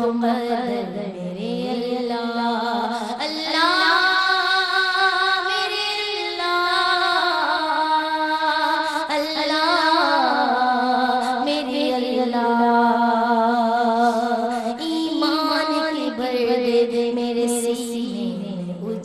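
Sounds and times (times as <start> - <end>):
woman singing hymn into microphone: 0.0 - 19.0.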